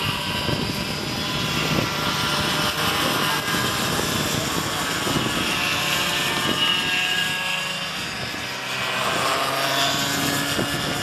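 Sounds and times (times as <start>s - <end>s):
go-kart engines buzzing: 0.0s - 11.0s.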